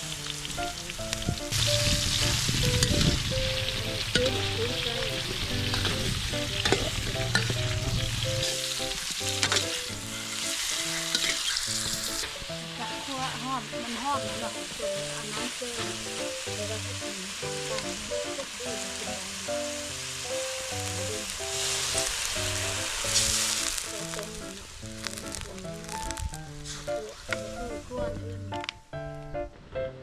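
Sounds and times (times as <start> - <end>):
vegetables sizzling in a hot pan: 0.0 - 28.0.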